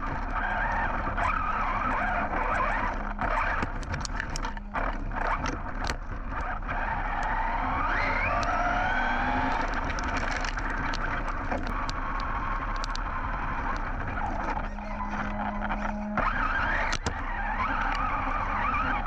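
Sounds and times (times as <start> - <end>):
sharp ticks and knocks: 0.0 - 18.3
rc truck electric motor whine: 0.0 - 19.0.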